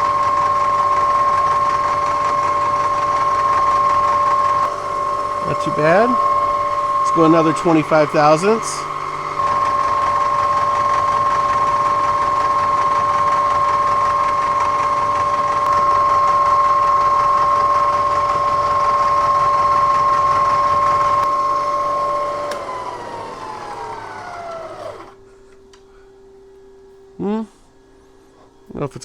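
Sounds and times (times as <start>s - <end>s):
spindle spinning down: 0.0s - 25.2s
milling machine whine: 0.0s - 25.3s.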